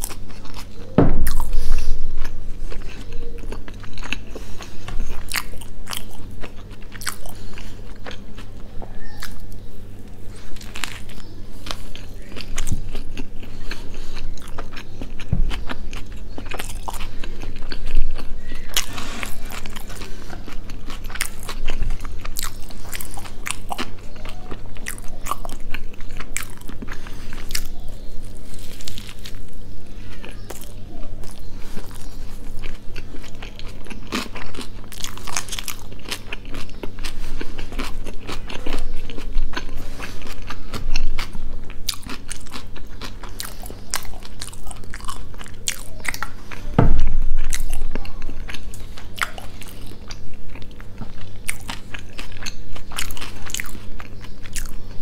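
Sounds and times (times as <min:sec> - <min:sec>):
wet chewing with crunches: 0:00.0 - 0:55.0.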